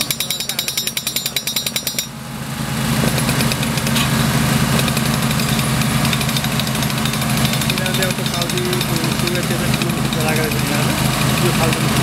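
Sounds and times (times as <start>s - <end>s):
small drilling machine engine running: 0.0s - 12.0s.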